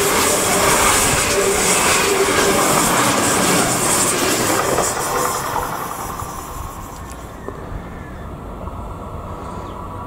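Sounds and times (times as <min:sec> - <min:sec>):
high-speed train passing: 0:00.0 - 0:10.0.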